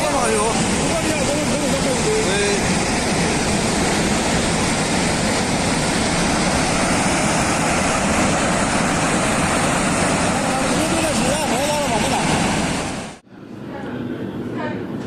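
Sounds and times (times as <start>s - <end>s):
floodwater torrent rushing: 0.0s - 13.2s.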